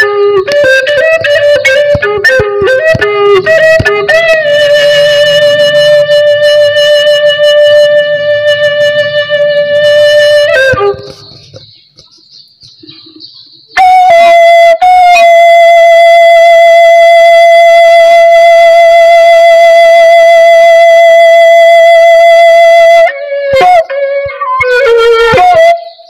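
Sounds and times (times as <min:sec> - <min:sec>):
wind pipe notes: 0:00.0 - 0:11.8, 0:13.8 - 0:26.0.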